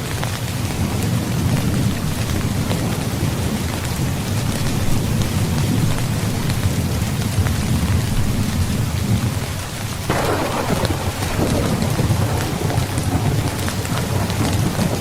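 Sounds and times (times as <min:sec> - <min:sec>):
heavy rainfall: 0:00.0 - 0:15.0
low rumble of thunder: 0:00.0 - 0:15.0.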